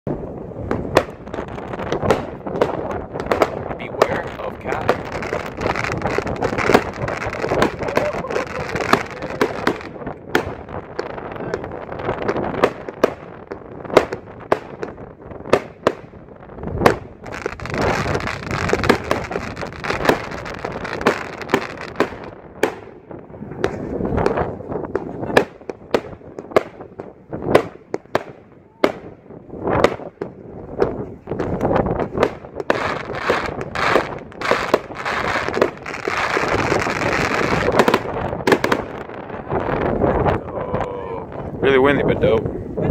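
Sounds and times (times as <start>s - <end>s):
firework hiss and crackle: 0.1s - 42.9s
firework cake shots: 0.6s - 39.1s.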